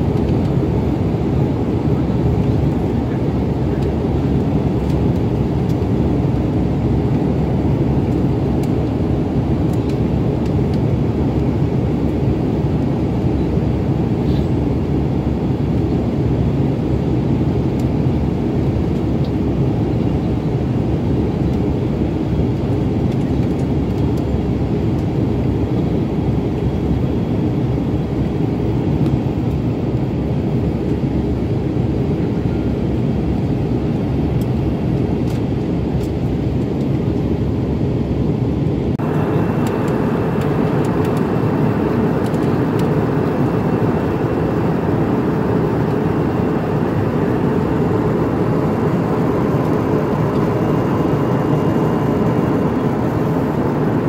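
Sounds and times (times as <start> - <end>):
airliner cabin engine rush: 0.0 - 54.0.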